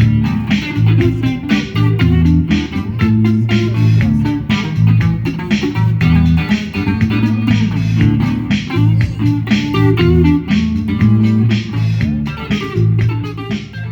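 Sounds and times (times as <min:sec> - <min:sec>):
band playing blues-funk groove: 0:00.0 - 0:13.9.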